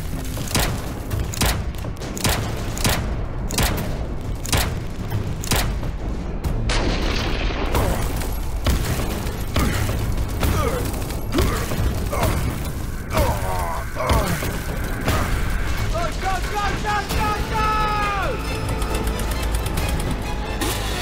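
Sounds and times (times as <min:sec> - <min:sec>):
dense rattling noise: 0:00.0 - 0:17.7
heavy booms beat: 0:00.5 - 0:18.6.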